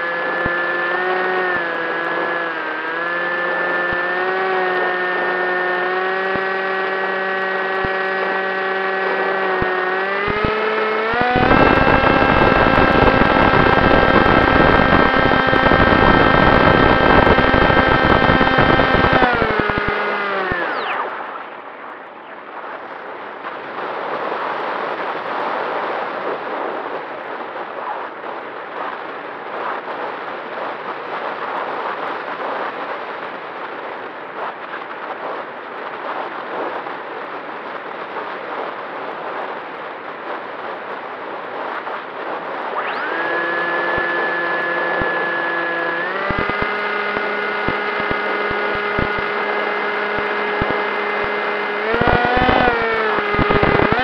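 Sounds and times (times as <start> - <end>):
electric motor and propeller whine: 0.0 - 54.0.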